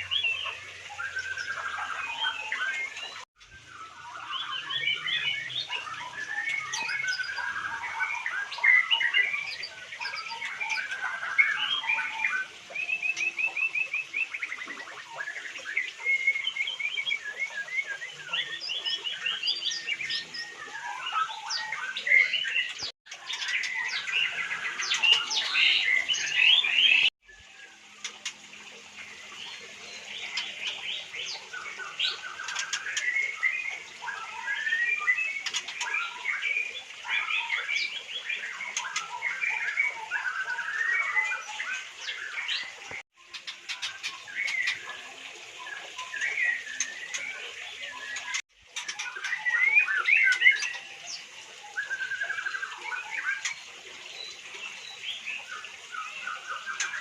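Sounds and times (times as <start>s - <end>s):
birds singing whistles and trills: 0.0s - 57.0s.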